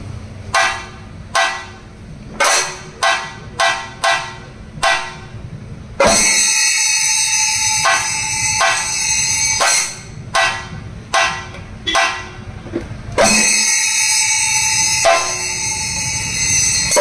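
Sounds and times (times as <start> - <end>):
cymbals ringing: 0.5 - 17.0
drums playing: 0.5 - 17.0.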